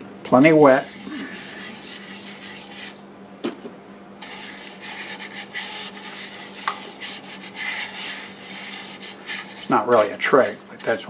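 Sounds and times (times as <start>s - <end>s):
wet swishing and scrubbing on wood: 0.4s - 3.0s, 4.2s - 10.8s.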